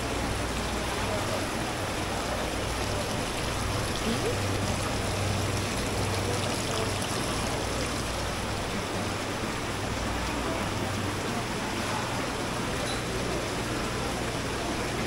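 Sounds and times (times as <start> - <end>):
running water: 0.0 - 15.0.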